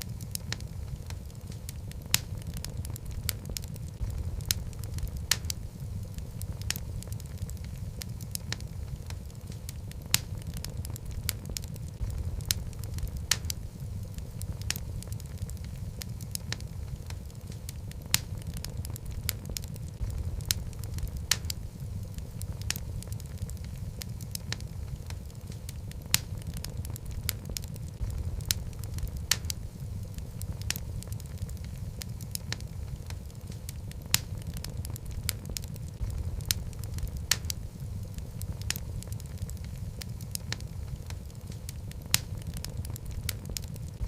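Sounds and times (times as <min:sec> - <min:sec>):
logs crackling and popping: 0:00.0 - 0:44.0
low rumble of flames: 0:00.0 - 0:44.0.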